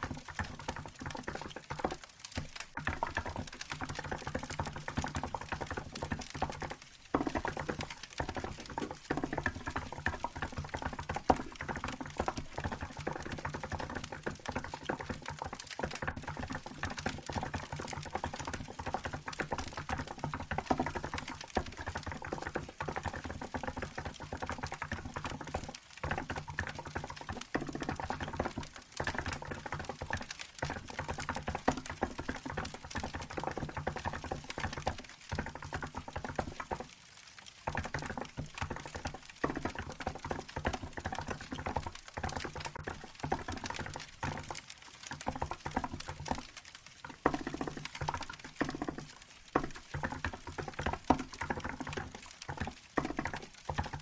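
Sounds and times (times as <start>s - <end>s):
crackling wood fire: 0.0s - 54.0s.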